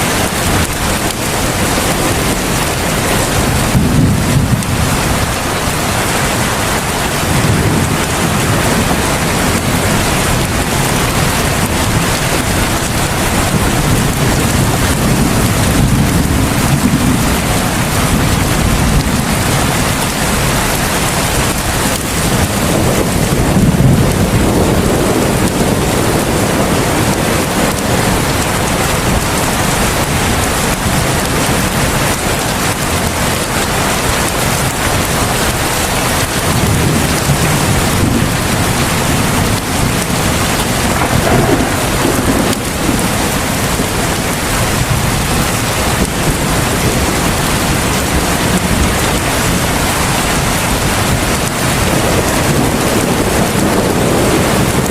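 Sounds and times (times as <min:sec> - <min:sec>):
heavy rain downpour: 0:00.0 - 0:54.9
low thunder rumbling: 0:00.0 - 0:54.9.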